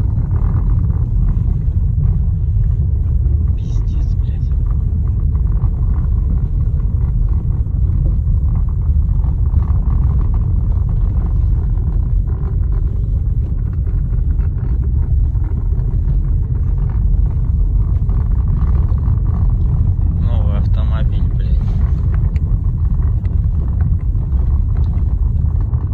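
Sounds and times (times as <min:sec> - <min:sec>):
car low rumble: 0:00.0 - 0:25.9.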